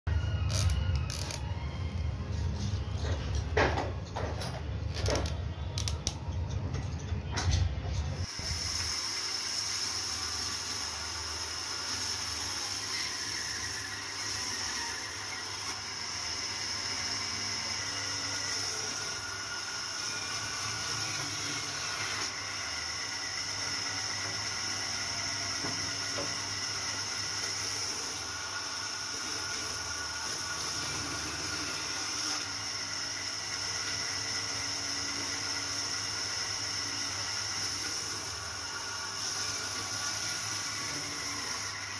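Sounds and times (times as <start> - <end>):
band saw cutting wood: 8.2 - 41.9.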